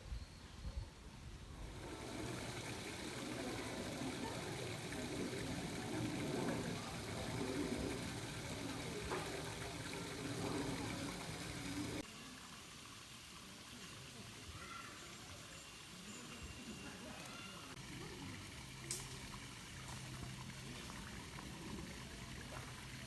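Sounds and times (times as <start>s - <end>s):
water running: 1.4s - 23.0s.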